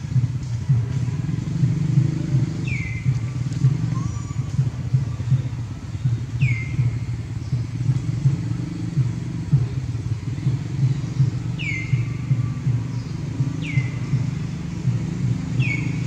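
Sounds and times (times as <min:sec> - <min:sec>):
motor engine rumbling: 0:00.0 - 0:16.0.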